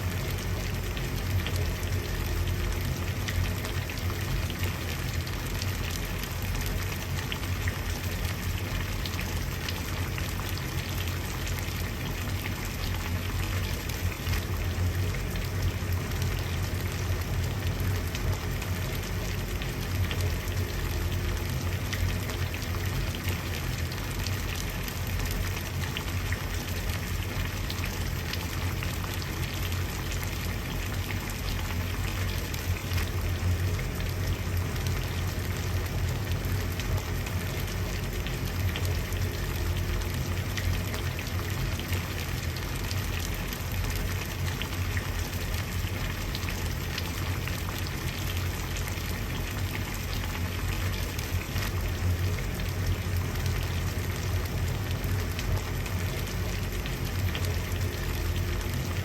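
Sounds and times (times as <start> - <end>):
water boiling: 0.0 - 59.0.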